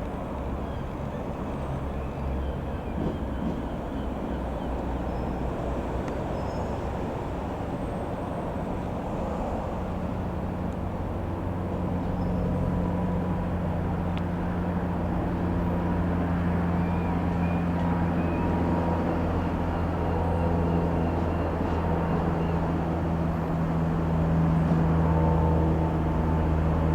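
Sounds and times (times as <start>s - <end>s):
light aeroplane engine droning: 0.0s - 26.9s.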